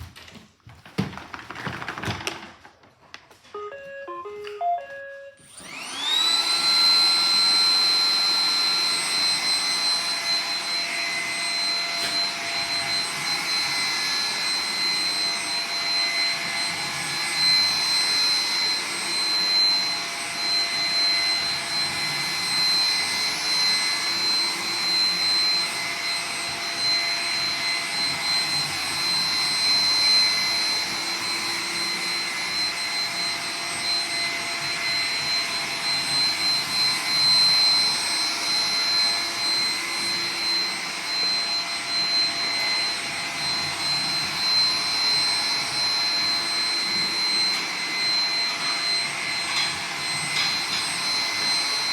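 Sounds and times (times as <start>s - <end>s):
robot vacuum motor whine: 3.6s - 51.9s.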